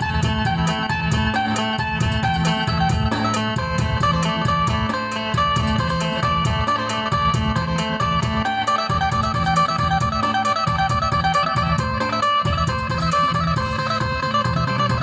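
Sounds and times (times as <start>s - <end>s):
bass line: 0.0s - 15.0s
plucked lute melody: 0.0s - 15.0s
steady percussion beat: 0.0s - 15.0s.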